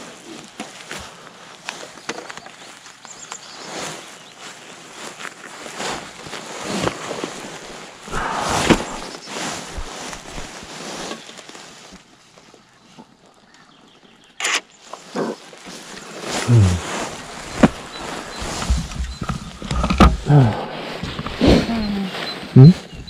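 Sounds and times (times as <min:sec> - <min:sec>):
rustling and crunching: 0:00.0 - 0:23.0.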